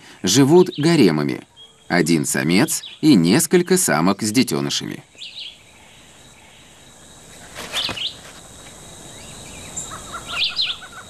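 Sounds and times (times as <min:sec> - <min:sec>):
birds calling: 0:00.0 - 0:11.0
faint steady background noise: 0:00.0 - 0:11.0.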